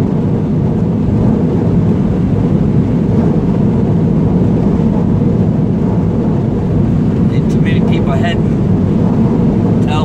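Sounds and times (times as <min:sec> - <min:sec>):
road and engine noise in vehicle: 0:00.0 - 0:10.0.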